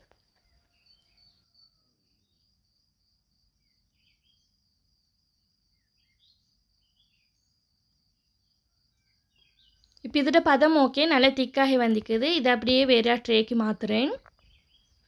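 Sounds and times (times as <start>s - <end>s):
faint bird chirps: 0.0s - 11.2s, 12.9s - 15.0s.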